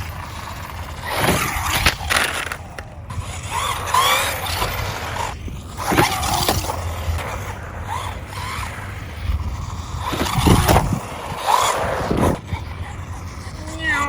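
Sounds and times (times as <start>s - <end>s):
rc car motor whining: 0.0s - 14.0s.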